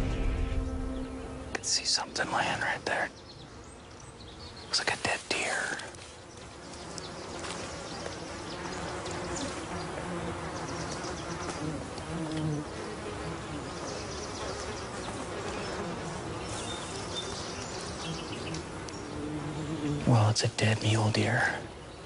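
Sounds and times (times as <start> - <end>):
flies buzzing: 0.0 - 22.0.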